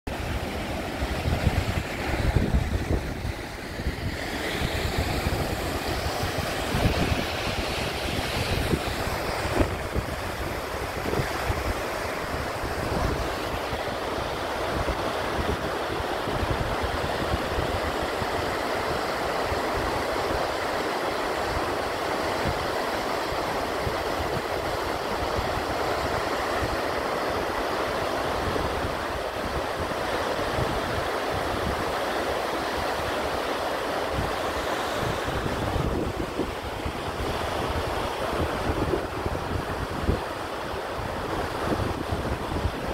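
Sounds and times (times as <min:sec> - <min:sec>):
waterfall rushing: 0:00.1 - 0:42.9.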